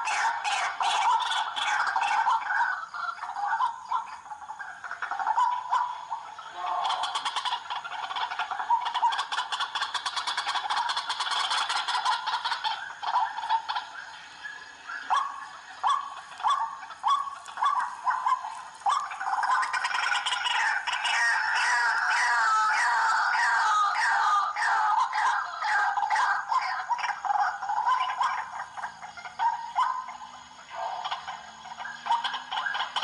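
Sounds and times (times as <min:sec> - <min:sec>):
waterhen calling: 0:00.0 - 0:33.0.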